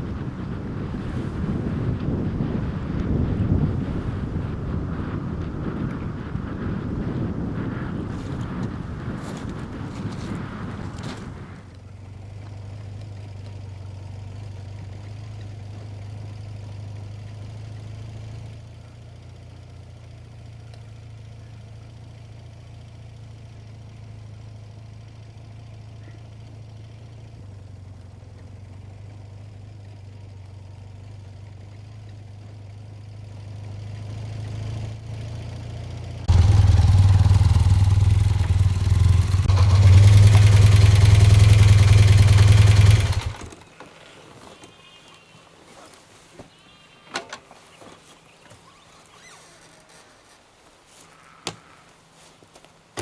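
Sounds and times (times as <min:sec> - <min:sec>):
motorcycle engine idling: 0:00.0 - 0:53.0.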